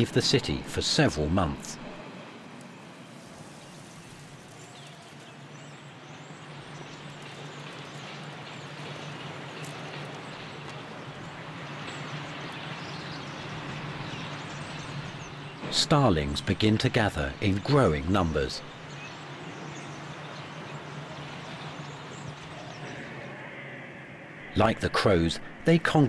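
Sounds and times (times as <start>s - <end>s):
city traffic rumble: 0.0s - 23.4s.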